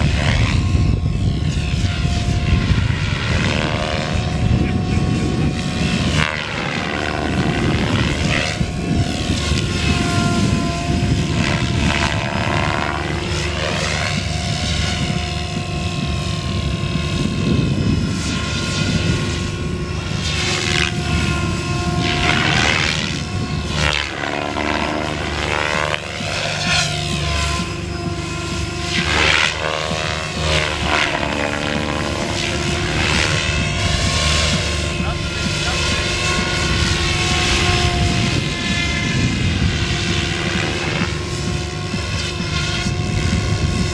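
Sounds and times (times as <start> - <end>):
motor and gear whine: 0.0 - 43.9
rc helicopter rotor chopping: 0.0 - 43.9.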